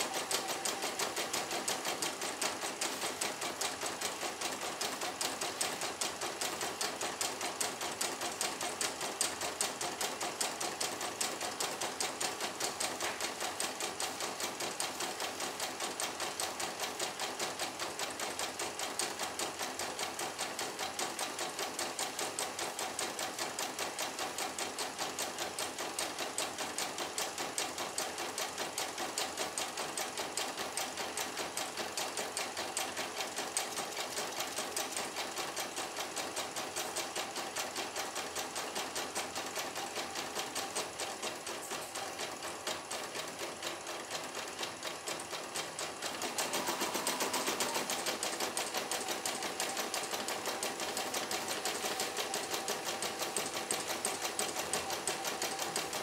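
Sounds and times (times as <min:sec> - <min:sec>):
embroidery machine stitching: 0:00.0 - 0:56.0.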